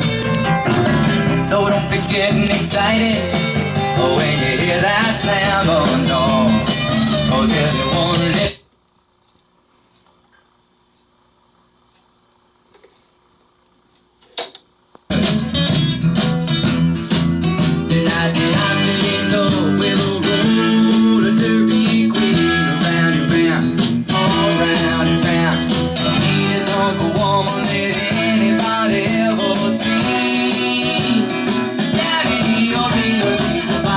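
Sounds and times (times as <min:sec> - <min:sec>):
guitar-led music: 0:00.0 - 0:08.6, 0:15.1 - 0:33.9.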